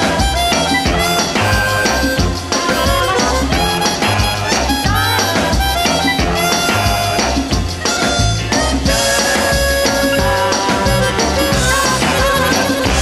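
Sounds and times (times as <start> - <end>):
music with steady drum beat: 0.0 - 13.0.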